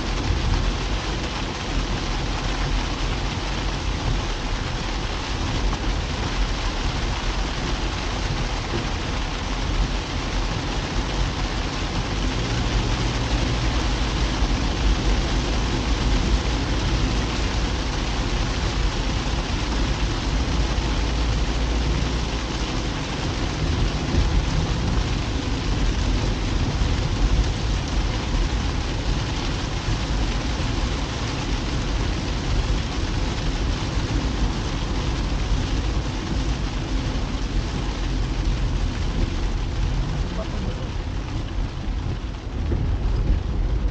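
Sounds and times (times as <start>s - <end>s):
rain on a car: 0.0s - 43.9s
tyres and engine rumble: 0.0s - 43.9s.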